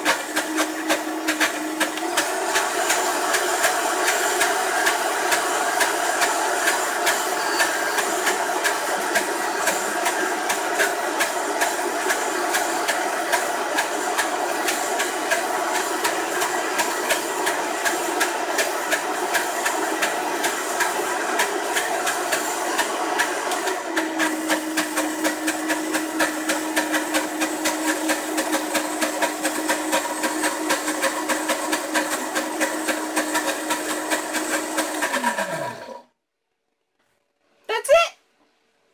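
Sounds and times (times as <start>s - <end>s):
blender running with rattle: 0.0s - 36.1s.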